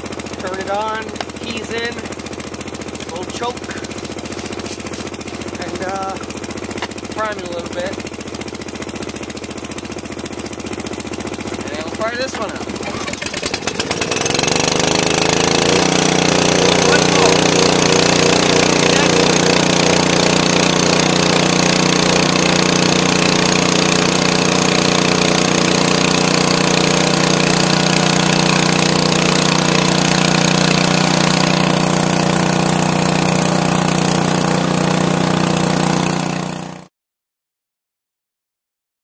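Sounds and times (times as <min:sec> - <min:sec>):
small engine running: 0:00.0 - 0:36.9.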